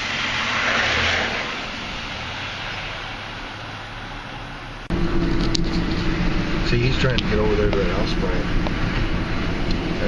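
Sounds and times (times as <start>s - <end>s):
low engine hum: 0.0s - 10.0s
vehicle road noise: 0.0s - 10.0s.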